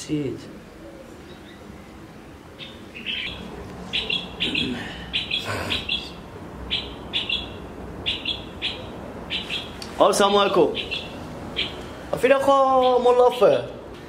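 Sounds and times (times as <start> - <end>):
birds chirping: 0.5 - 14.0.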